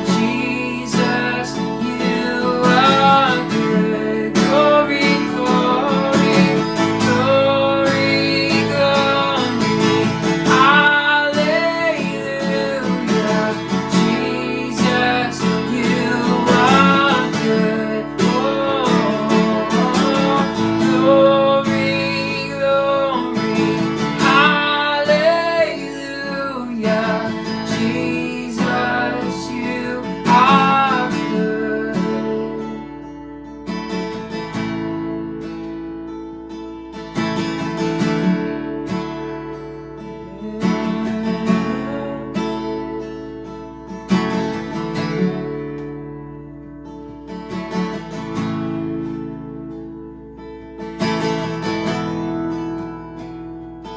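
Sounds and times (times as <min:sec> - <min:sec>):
strummed acoustic guitar: 0:00.0 - 0:53.9.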